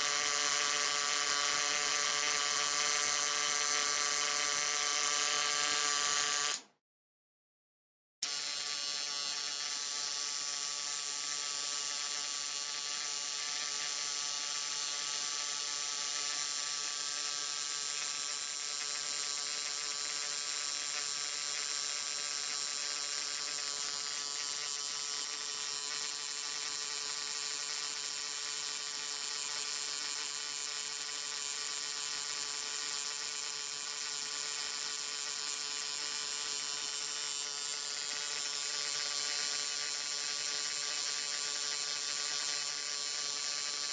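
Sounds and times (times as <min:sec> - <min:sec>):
electric arc buzzing: 0:00.0 - 0:06.7, 0:08.2 - 0:43.9.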